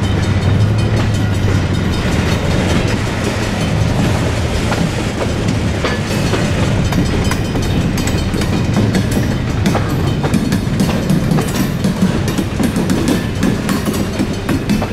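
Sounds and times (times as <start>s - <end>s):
freight train rumbling past: 0.0s - 14.9s
wheels clicking over rails: 0.0s - 14.9s.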